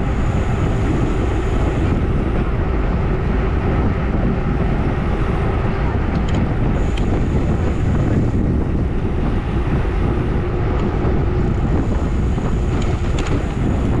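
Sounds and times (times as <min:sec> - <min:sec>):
tyres rolling on asphalt: 0:00.0 - 0:14.0
wind rushing over microphone: 0:00.0 - 0:14.0.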